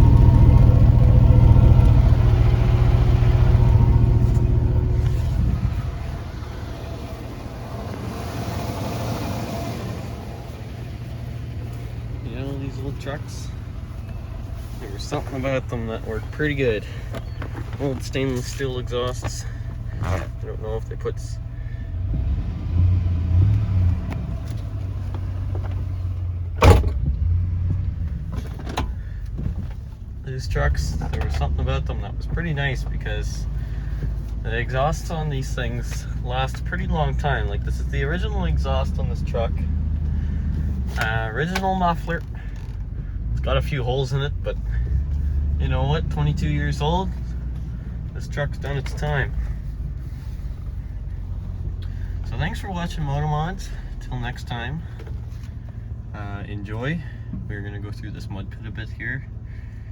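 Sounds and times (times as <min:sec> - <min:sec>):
truck exhaust engine drone: 0:00.0 - 0:59.9.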